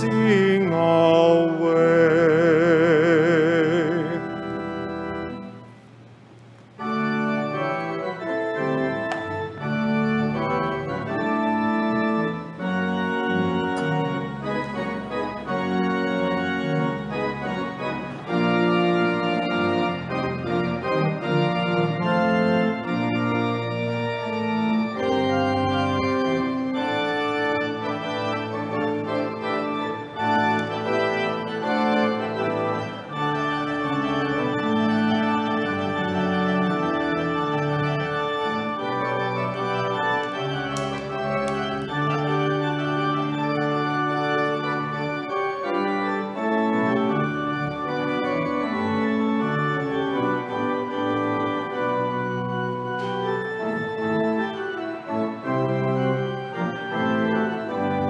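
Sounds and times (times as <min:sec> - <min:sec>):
organ playing sustained chords: 0:00.0 - 0:58.0.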